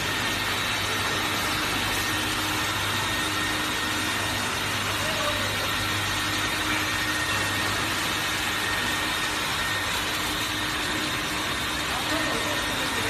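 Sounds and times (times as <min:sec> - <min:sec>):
industrial vacuum cleaner whining: 0:00.0 - 0:13.0.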